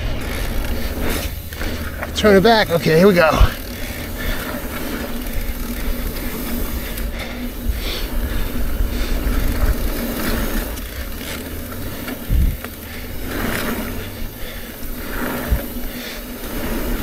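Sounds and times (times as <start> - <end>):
bike tyres rumbling on dirt: 0.0 - 17.0.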